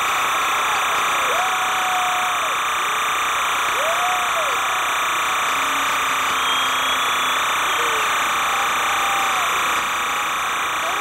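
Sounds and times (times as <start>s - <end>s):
crowd cheering: 0.0s - 11.0s.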